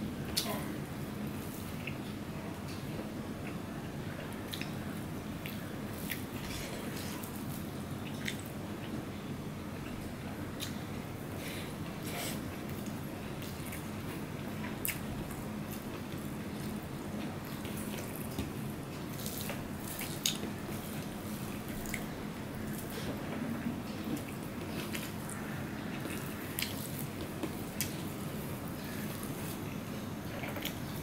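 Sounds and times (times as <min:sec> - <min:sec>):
wet eating sounds: 0:01.4 - 0:08.6, 0:11.5 - 0:31.0.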